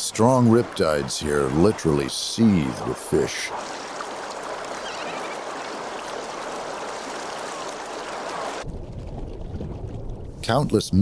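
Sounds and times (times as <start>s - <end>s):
churning water rushing: 0.0s - 10.2s.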